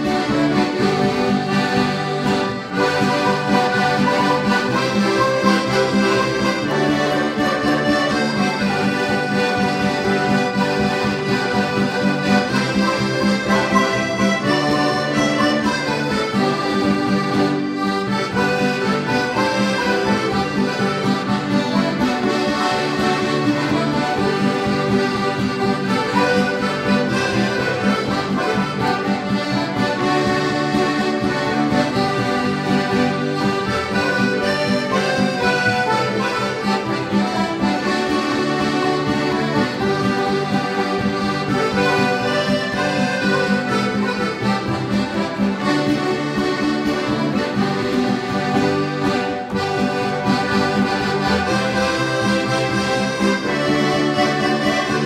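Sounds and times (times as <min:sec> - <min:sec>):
accordions playing folk dance tune: 0:00.0 - 0:55.0.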